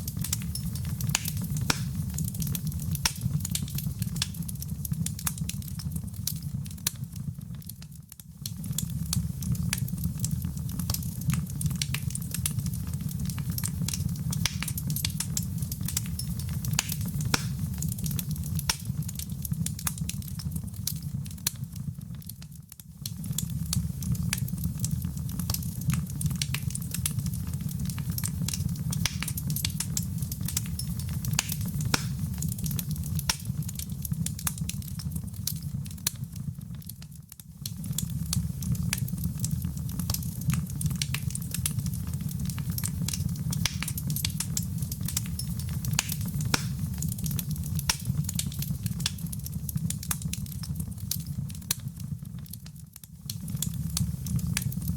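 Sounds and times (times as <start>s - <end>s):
fire low rumble: 0.0s - 54.9s
wood fire crackling: 0.0s - 54.9s.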